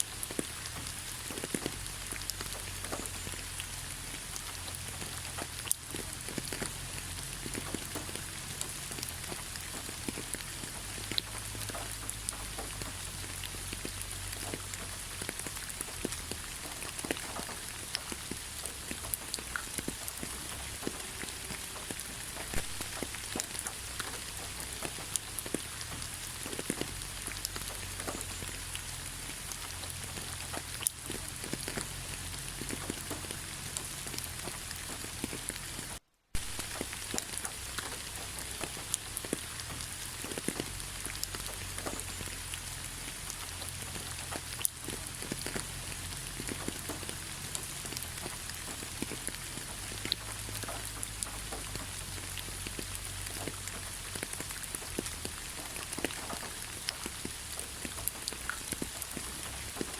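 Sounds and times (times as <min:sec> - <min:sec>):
raindrops ticking: 0:00.0 - 0:59.9
steady rain falling: 0:00.0 - 0:59.9.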